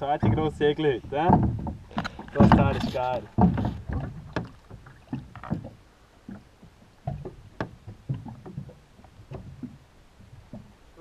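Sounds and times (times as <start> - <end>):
water slapping against hull: 0.0 - 11.0.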